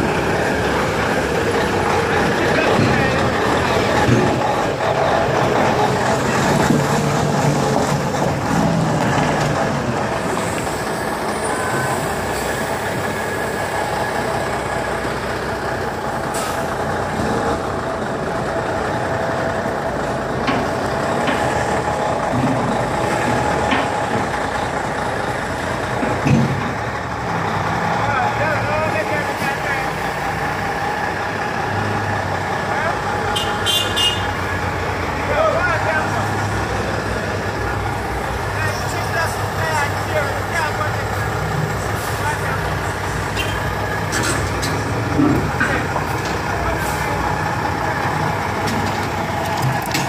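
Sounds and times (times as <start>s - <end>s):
diesel truck engine running: 0.0s - 50.0s.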